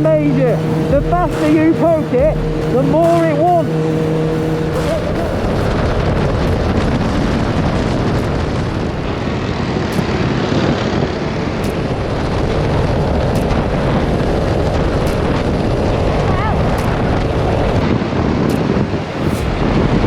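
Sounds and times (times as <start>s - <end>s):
go-kart engine running: 0.0s - 20.0s
wind rush over microphone: 0.0s - 20.0s.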